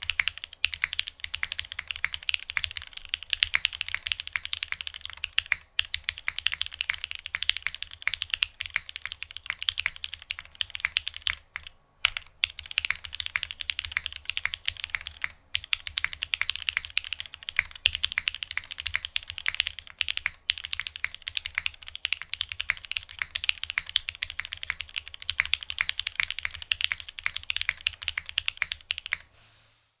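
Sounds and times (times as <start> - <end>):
mechanical keyboard typing: 0.0 - 29.3.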